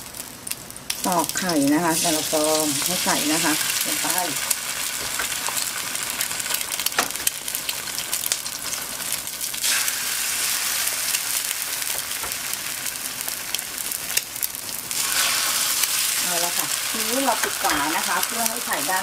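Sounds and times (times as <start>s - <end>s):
eggs sizzling in a pan: 0.0s - 19.0s.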